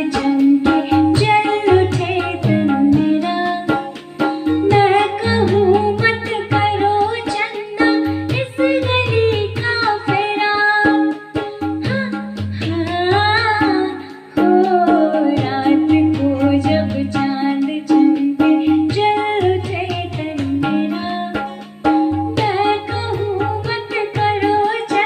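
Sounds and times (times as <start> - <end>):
ornamented melody line: 0.0 - 25.0
percussion strikes: 0.0 - 25.0.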